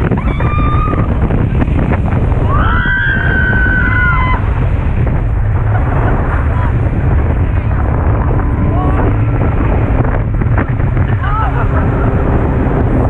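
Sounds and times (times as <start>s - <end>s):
speedboat running: 0.0s - 13.0s
water rushing against hull: 0.0s - 13.0s
wind buffeting microphone: 0.0s - 13.0s.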